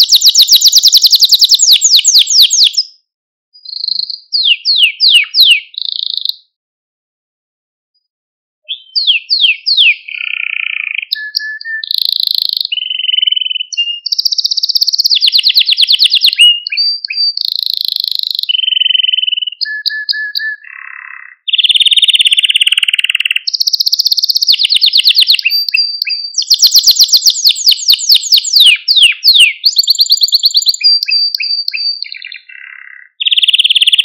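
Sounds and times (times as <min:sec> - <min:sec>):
canary singing: 0:00.0 - 0:03.0, 0:03.6 - 0:06.6, 0:08.7 - 0:34.0.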